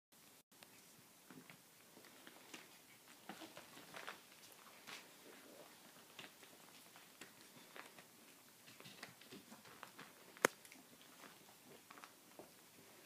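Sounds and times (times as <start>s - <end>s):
puppies scuffling and scratching: 0.6s - 13.0s.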